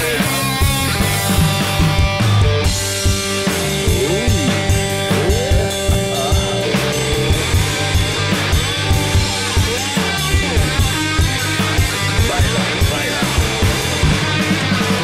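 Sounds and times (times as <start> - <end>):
bending lead guitar line: 0.0 - 15.0
blues-rock band playing: 0.0 - 15.0.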